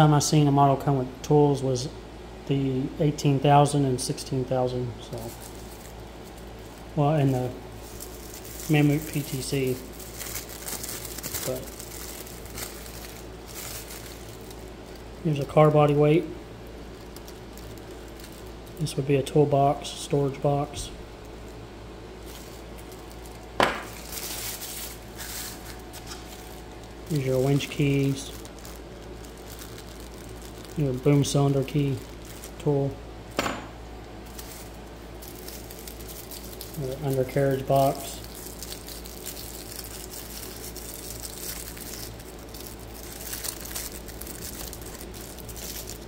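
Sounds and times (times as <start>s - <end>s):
faint low hum: 0.0s - 46.0s
packaging rustling: 5.0s - 16.0s, 16.6s - 19.0s, 21.1s - 32.7s, 34.1s - 46.0s.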